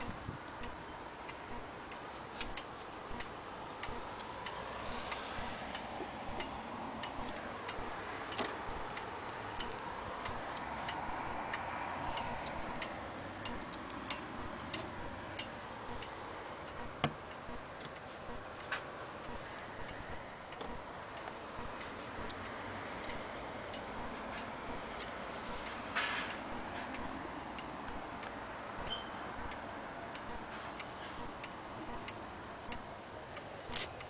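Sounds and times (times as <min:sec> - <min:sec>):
pendulum clock ticking: 0:00.0 - 0:34.0.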